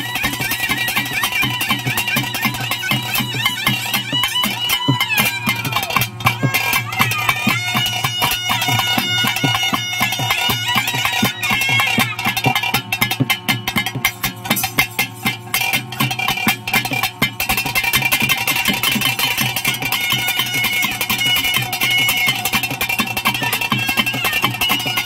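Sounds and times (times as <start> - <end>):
shrill reed pipe melody: 0.0 - 13.0, 17.6 - 25.0
fast dense drumming: 0.0 - 25.0.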